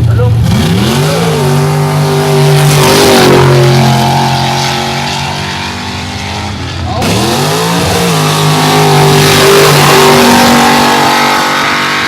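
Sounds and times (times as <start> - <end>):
higher engine tone: 0.0 - 12.0
off-road engine revving: 0.0 - 12.0.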